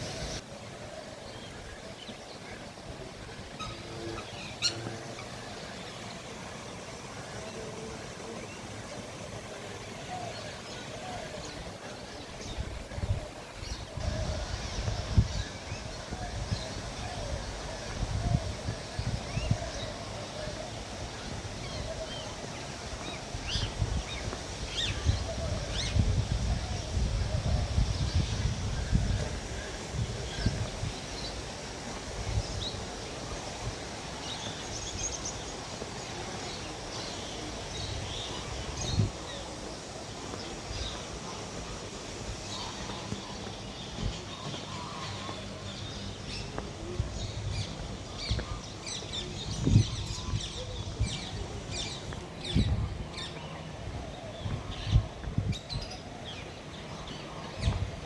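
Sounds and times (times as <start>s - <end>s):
outdoor background noise: 0.0s - 58.0s
small birds chirping: 1.2s - 58.0s.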